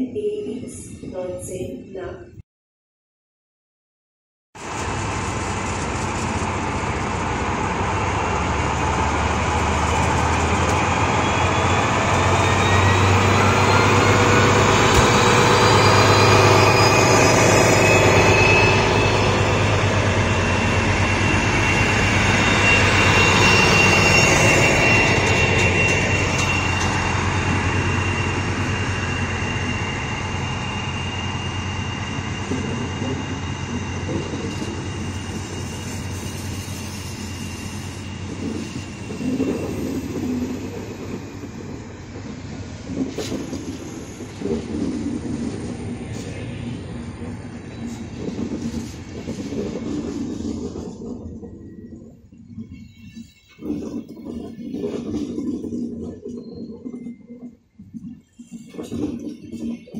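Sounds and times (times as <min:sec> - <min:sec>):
passenger coaches rolling past: 0:04.6 - 0:55.8
diesel locomotive engines whining: 0:04.6 - 0:59.9.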